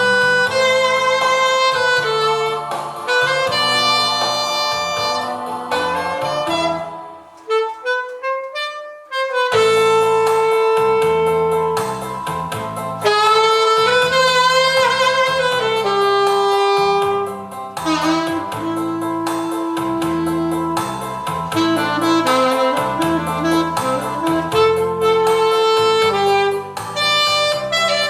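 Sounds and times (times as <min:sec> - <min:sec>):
bass line and steady beat: 0:00.0 - 0:08.2, 0:09.3 - 0:28.0
saxophone solo melody: 0:00.0 - 0:28.0.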